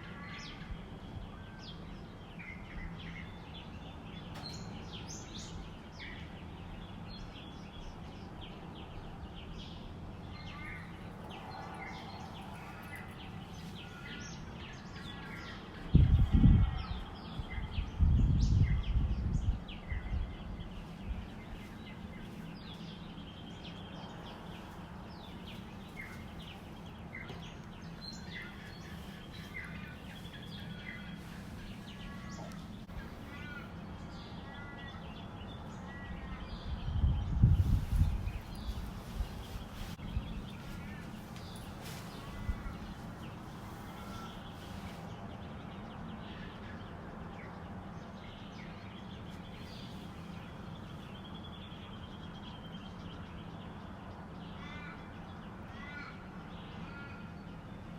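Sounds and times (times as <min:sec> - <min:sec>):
birds chirping in a dawn chorus: 0:00.0 - 0:57.9.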